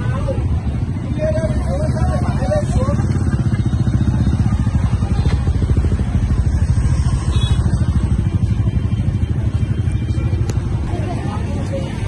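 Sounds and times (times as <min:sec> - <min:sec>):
scooter engines puttering: 0:00.0 - 0:12.0.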